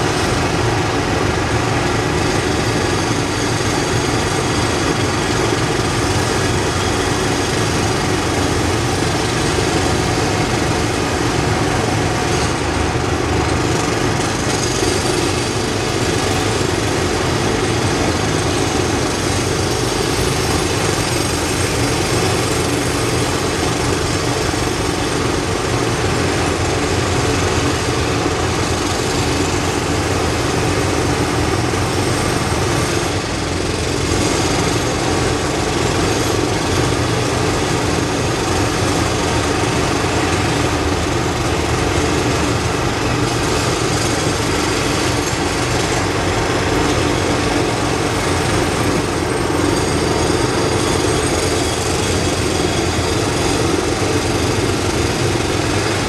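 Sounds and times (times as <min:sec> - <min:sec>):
jackhammers hammering: 0:00.0 - 0:56.0.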